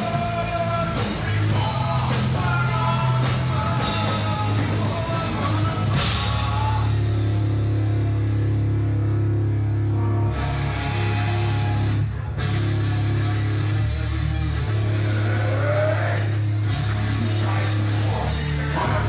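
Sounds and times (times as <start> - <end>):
metal band playing live: 0.0 - 19.0.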